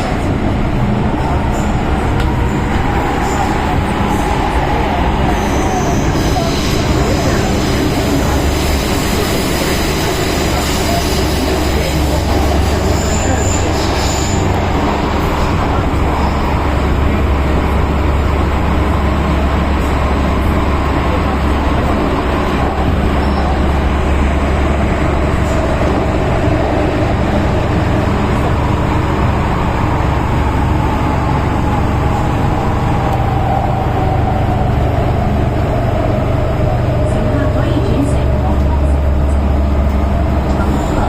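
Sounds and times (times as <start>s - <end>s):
wheels rumbling on track: 0.0s - 41.0s.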